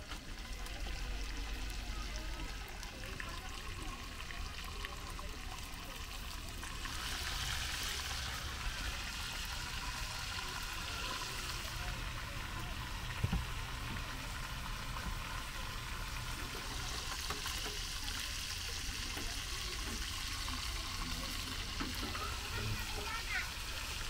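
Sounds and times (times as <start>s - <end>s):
meat sizzling in oil: 0.0s - 24.0s.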